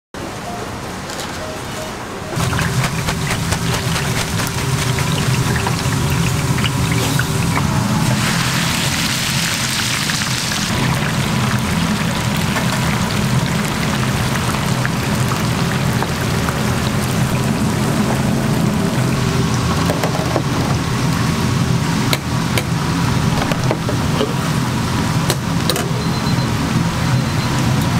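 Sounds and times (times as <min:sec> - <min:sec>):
potatoes deep-frying in oil: 0:02.4 - 0:27.9.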